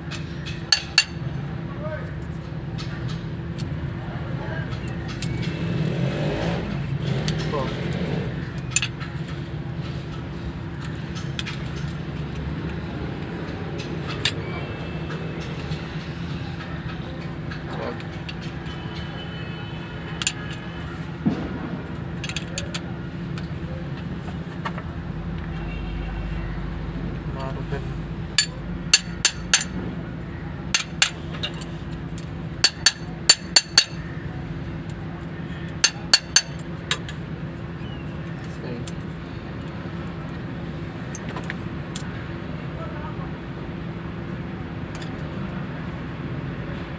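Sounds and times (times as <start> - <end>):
vehicle engine idling: 2.6 - 46.3.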